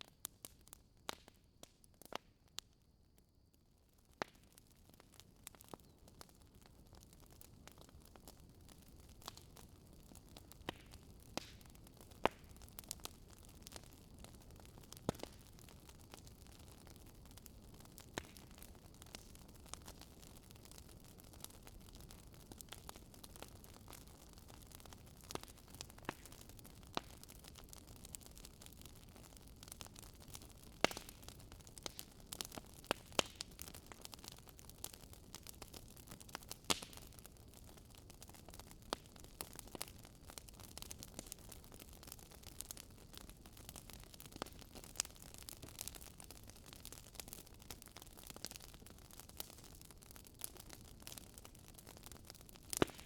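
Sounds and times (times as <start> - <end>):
sharp pops from burning logs: 0.0 - 2.8, 4.0 - 53.0
wood fire crackling: 0.0 - 2.8, 3.4 - 53.0.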